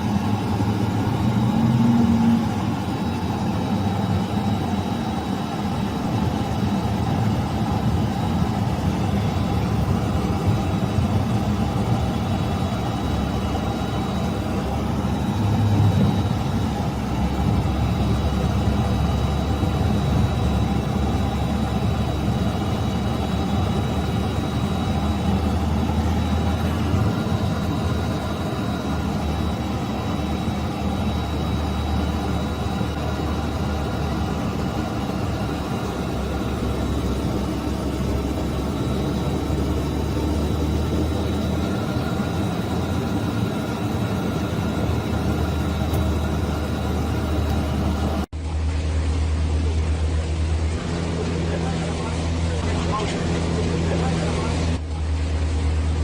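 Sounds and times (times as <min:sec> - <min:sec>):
faint high whine: 0:00.0 - 0:56.0
vehicle engine running: 0:00.0 - 0:56.0.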